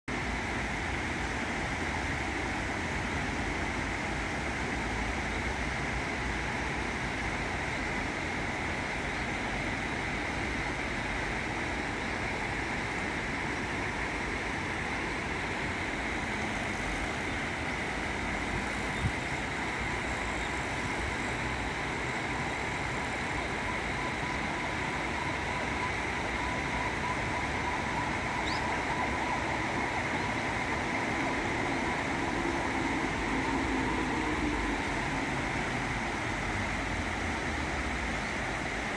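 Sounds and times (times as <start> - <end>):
stream water flowing: 0.1 - 38.9.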